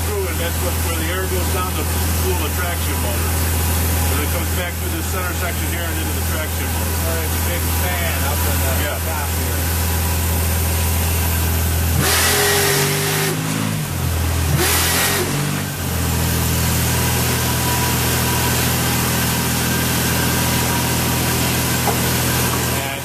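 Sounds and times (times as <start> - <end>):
engine idling and revving: 0.0 - 23.0.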